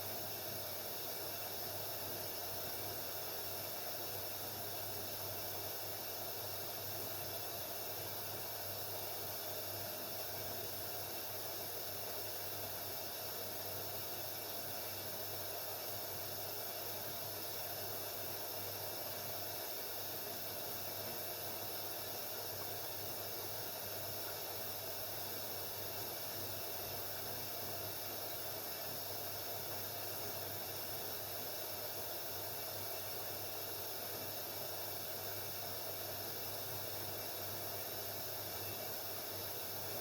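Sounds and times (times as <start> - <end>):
washing machine hiss and hum: 0.0 - 40.0.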